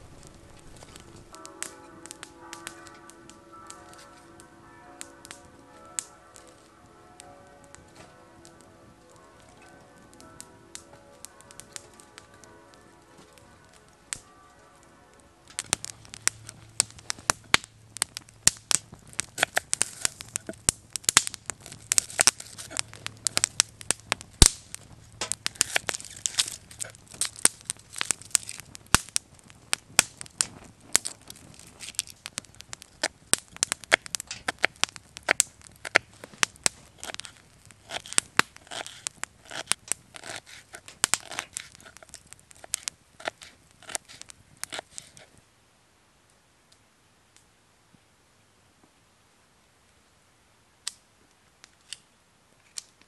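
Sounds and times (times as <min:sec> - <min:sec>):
fire popping and snapping: 0:00.0 - 0:45.6, 0:50.7 - 0:53.0
campfire crackling: 0:00.0 - 0:53.0.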